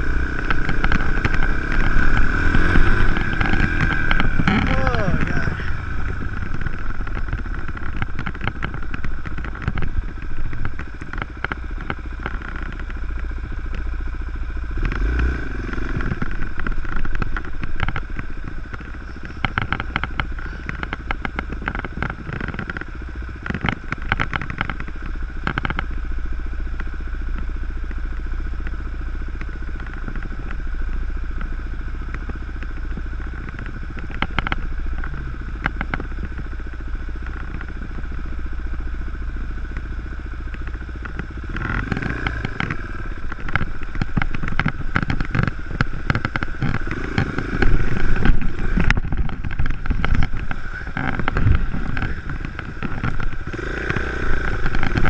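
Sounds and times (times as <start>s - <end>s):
dirt bike engine running: 0.0s - 55.0s
sharp clattering and crackling: 0.0s - 55.0s.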